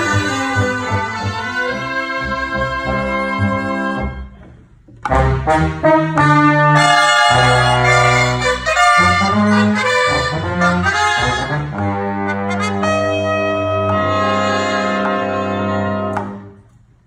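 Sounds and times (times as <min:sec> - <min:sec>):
reed and brass band playing: 0:00.0 - 0:04.4, 0:05.0 - 0:16.7
held brass chords: 0:00.0 - 0:16.8.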